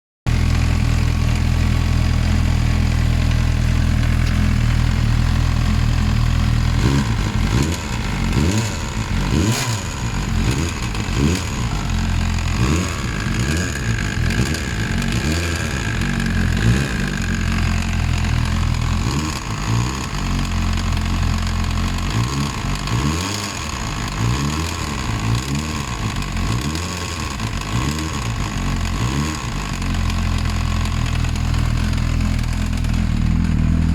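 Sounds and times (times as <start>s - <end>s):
vehicle engine idling and revving: 0.3s - 33.9s.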